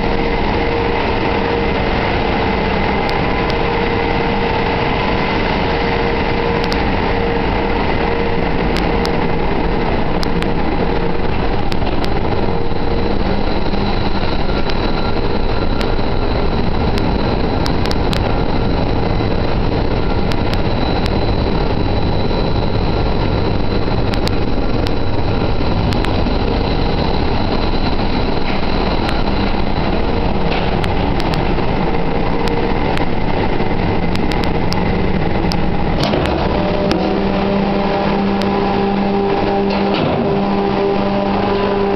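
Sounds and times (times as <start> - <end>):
engine-room machinery running: 0.0 - 41.9
steady whining tones: 0.0 - 41.9.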